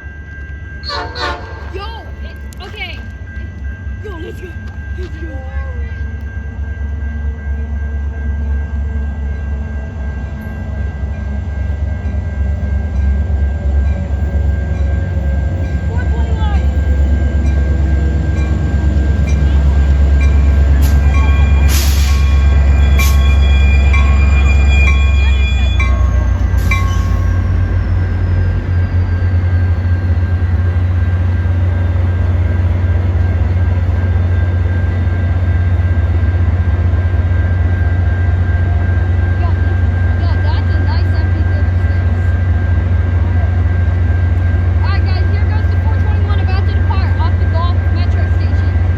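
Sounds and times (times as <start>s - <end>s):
diesel locomotive running: 0.0s - 48.9s.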